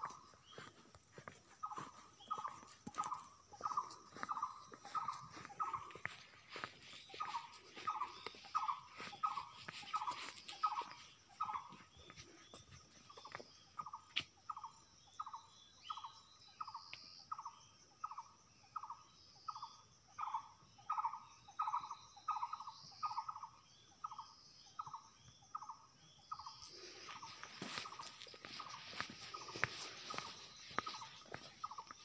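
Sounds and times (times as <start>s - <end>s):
higher chirps of other birds: 0.0s - 18.2s, 18.8s - 32.0s.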